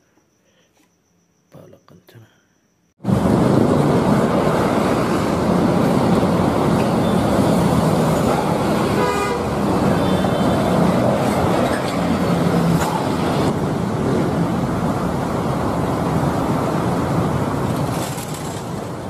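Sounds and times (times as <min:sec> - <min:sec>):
buses driving past: 0:03.0 - 0:19.0
surrounding traffic: 0:03.0 - 0:19.0.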